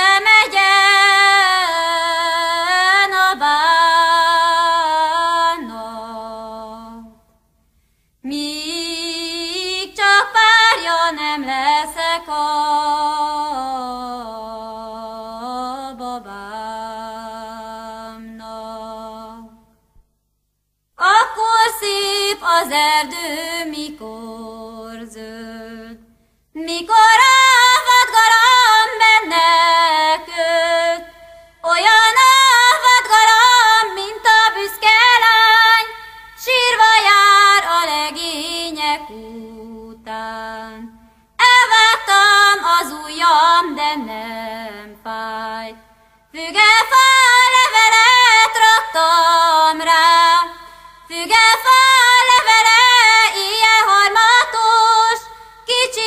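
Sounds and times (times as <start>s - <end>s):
woman singing unaccompanied: 0.0s - 7.2s, 8.2s - 19.7s, 21.0s - 56.0s.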